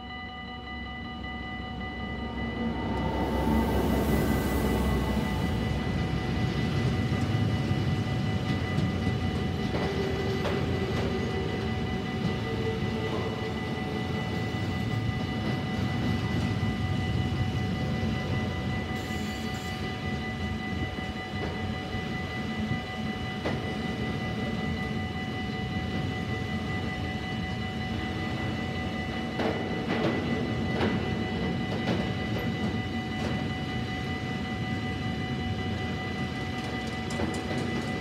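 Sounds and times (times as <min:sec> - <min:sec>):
steady high-pitched tones: 0:00.0 - 0:38.0
train wheels rumbling on rails: 0:01.2 - 0:38.0.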